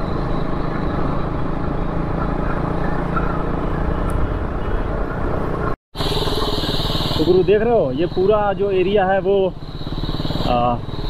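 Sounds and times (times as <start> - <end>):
motorcycle engine running: 0.0 - 11.0
road rumble: 0.0 - 11.0
wind: 0.0 - 11.0.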